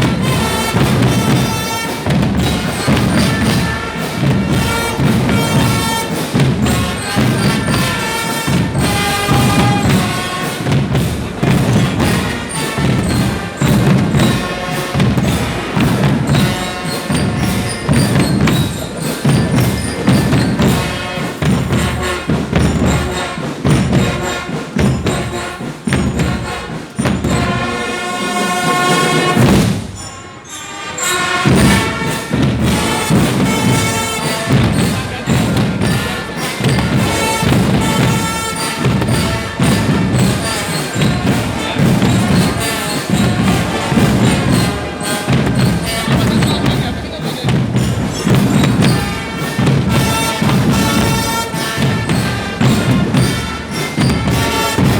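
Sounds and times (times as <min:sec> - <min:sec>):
heavy drum beat: 0:00.0 - 0:30.1, 0:31.1 - 0:54.9
sustained melodic instruments: 0:00.0 - 0:54.9.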